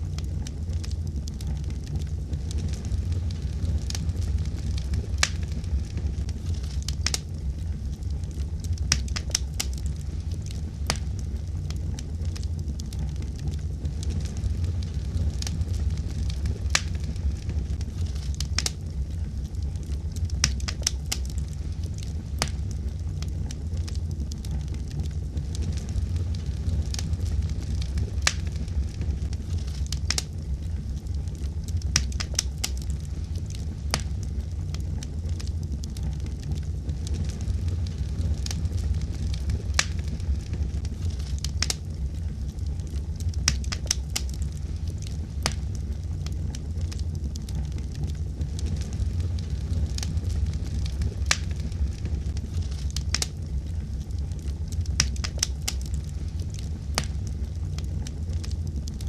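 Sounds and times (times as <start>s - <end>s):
low fire rumble: 0.0s - 59.0s
wood fire crackling and popping: 0.0s - 59.0s.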